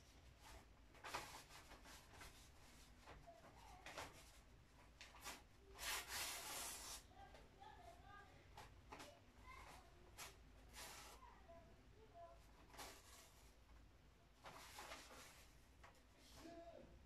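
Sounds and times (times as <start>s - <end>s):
paper rustling: 0.2s - 7.4s, 8.5s - 11.3s, 12.2s - 13.8s, 14.4s - 16.5s.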